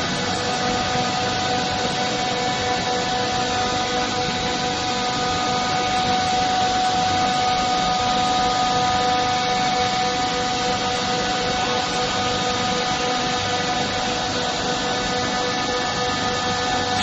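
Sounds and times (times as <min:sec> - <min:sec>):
industrial machinery droning: 0:00.0 - 0:17.0
steady whining tones: 0:00.0 - 0:17.0.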